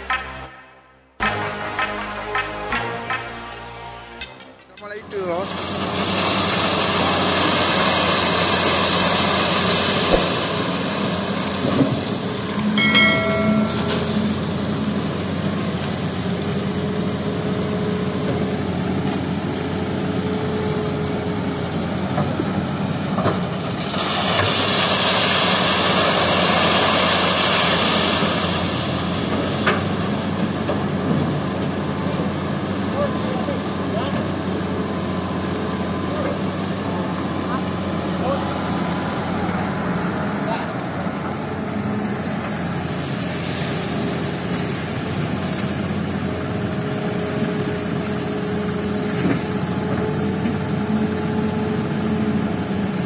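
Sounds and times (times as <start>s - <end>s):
excavator diesel engine under load: 4.3s - 53.0s.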